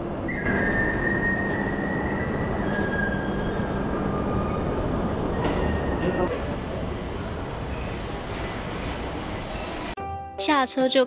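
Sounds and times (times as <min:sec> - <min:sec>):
train running rumble and whine: 0:00.0 - 0:10.0.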